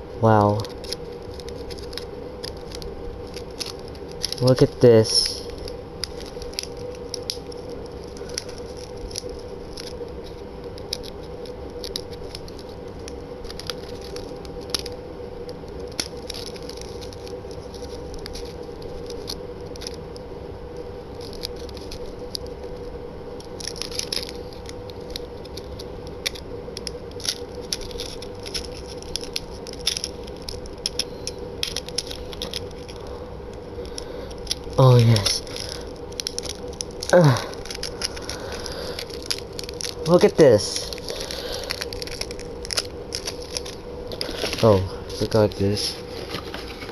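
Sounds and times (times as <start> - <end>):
steady hum: 0.0 - 46.9
packaging clicks rattles and scrapes: 0.4 - 46.9.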